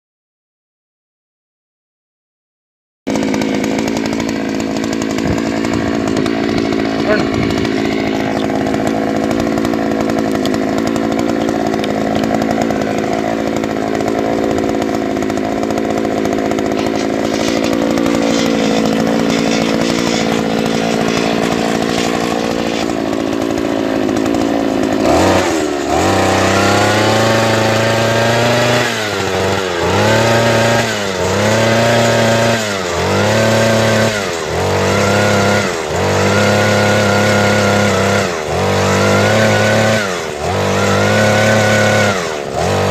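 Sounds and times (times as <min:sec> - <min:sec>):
earth auger engine running: 0:03.1 - 0:42.9.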